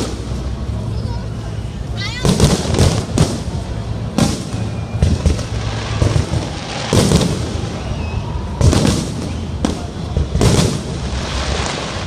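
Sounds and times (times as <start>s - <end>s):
fireworks bursting with bangs: 0.0s - 12.0s.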